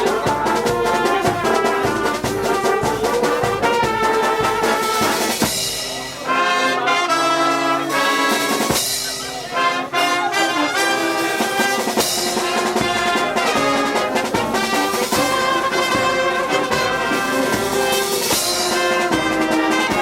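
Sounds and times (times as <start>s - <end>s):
drum strokes: 0.0s - 6.4s, 7.6s - 20.0s
brass ensemble playing chords: 0.0s - 20.0s.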